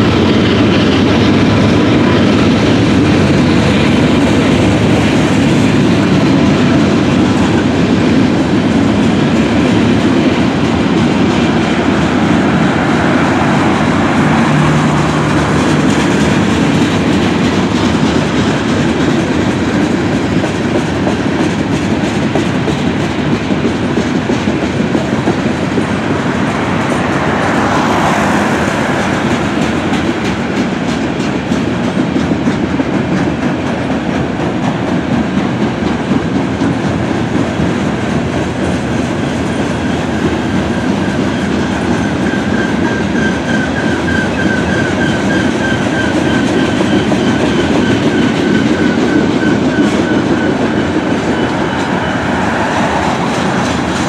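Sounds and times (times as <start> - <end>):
train wheels rumbling on rails: 0.0 - 54.0
wheels clicking over rail joints: 0.0 - 54.0.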